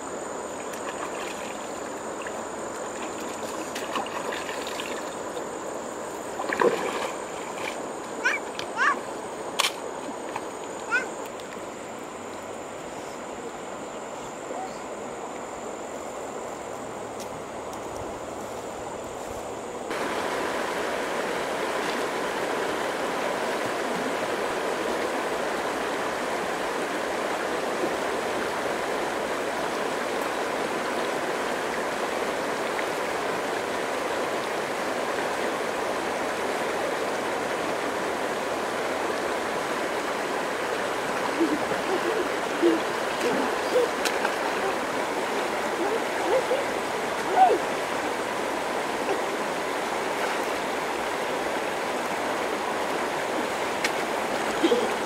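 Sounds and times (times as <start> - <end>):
river rushing over stones: 0.0 - 12.8, 19.8 - 55.0.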